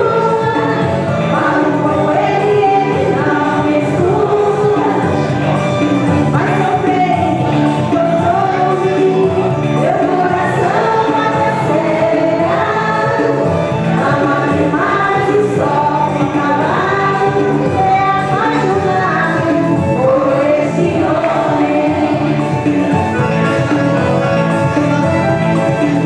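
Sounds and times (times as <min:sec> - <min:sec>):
woman singing into microphone: 0:00.0 - 0:23.3
backing music: 0:00.0 - 0:26.0.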